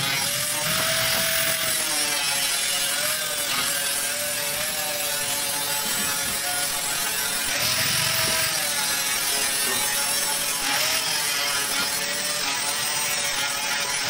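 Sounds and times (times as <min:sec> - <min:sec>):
angle grinder on sheet metal: 0:00.0 - 0:14.0.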